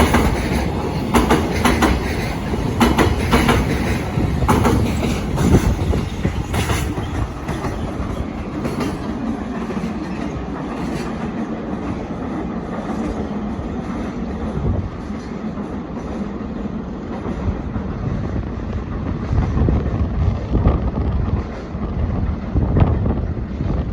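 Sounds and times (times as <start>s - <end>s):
train wheels clacking on rail joints: 0.0s - 23.2s
freight train rumble: 0.0s - 23.9s.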